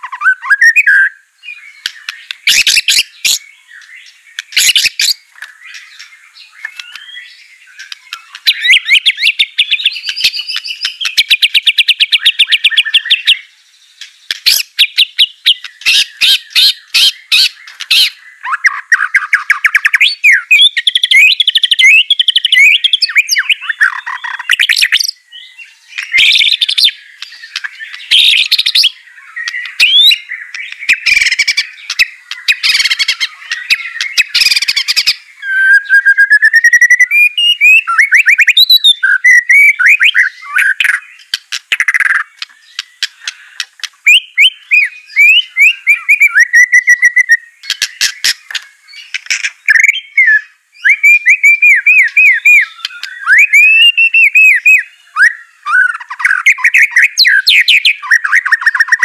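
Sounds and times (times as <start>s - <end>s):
bird singing whistled phrases: 0.0s - 43.4s, 44.0s - 59.0s.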